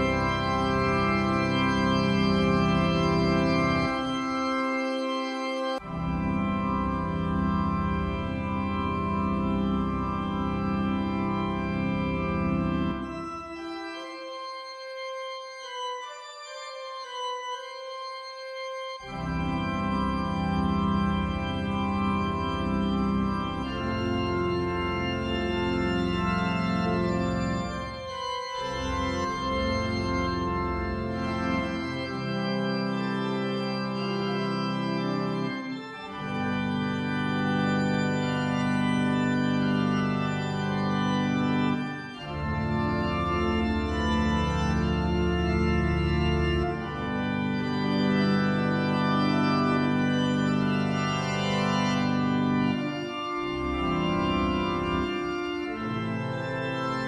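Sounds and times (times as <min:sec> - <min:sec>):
organ chords: 0:00.0 - 0:57.0.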